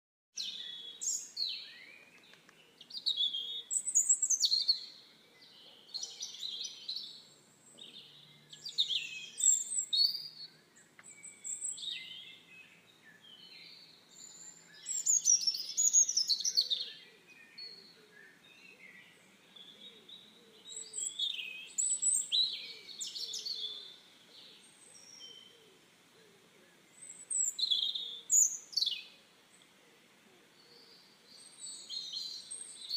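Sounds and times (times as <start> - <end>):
birds singing and chirping: 0.4 - 32.9.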